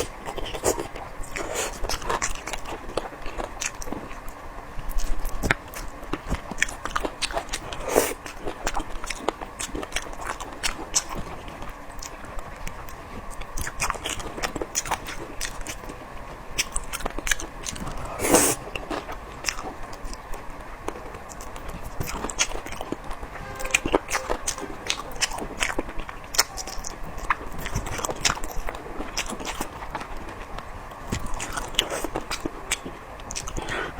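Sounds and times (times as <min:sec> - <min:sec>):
chewing and crunching: 0:00.0 - 0:33.9.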